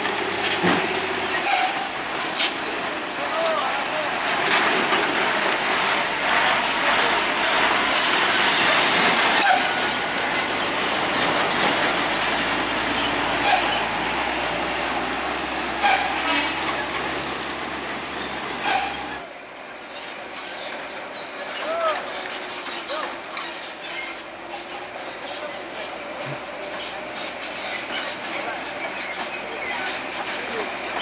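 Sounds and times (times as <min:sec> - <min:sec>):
diesel truck engine under load: 0:00.0 - 0:31.0.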